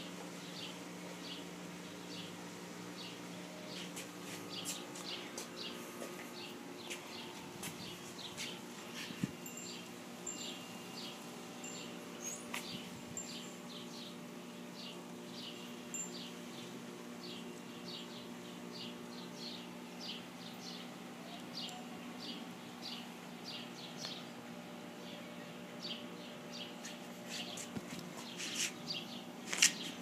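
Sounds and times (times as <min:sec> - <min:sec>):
steady low hum: 0:00.0 - 0:30.0
small birds chirping: 0:00.1 - 0:30.0.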